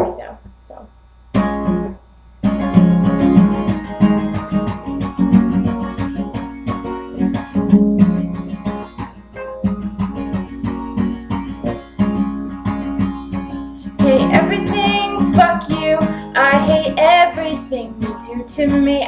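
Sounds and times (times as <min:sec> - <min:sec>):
acoustic guitar strumming: 0:01.3 - 0:19.0.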